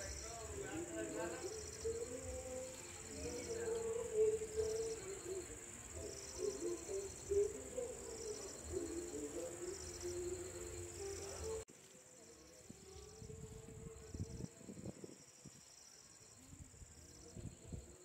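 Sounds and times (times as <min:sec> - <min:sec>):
cricket trill: 0:00.0 - 0:18.0
pulsed insect chirp: 0:00.0 - 0:18.0.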